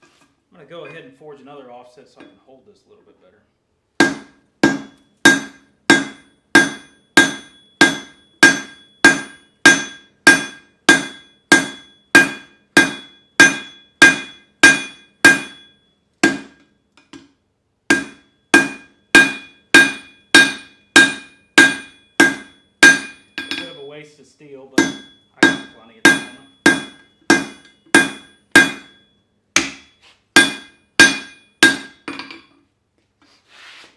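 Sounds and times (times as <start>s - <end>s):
hammer striking hot steel on anvil: 4.0s - 24.0s, 24.7s - 32.5s.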